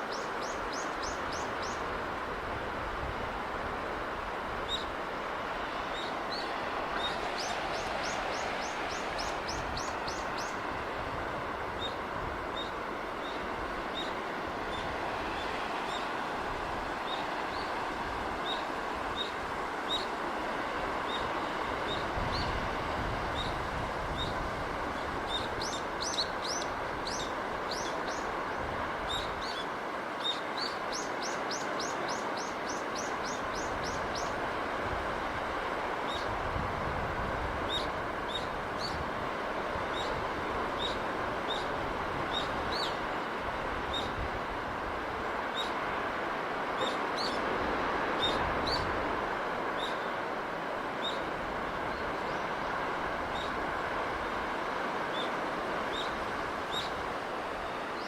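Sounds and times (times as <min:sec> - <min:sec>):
sea wind and surf: 0:00.0 - 0:58.0.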